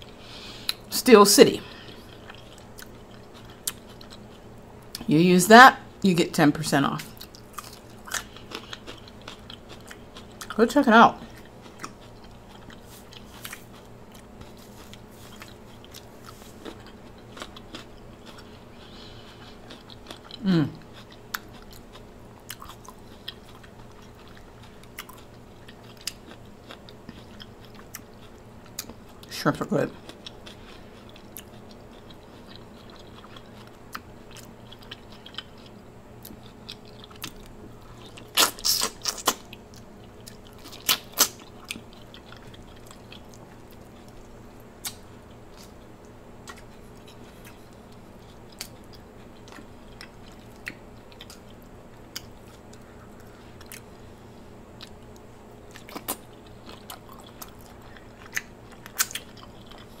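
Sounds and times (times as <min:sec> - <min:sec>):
faint steady hum: 0:00.0 - 1:00.0
chewing and biting shrimp: 0:01.8 - 0:05.1, 0:07.1 - 0:10.6, 0:11.2 - 0:29.3, 0:30.0 - 1:00.0.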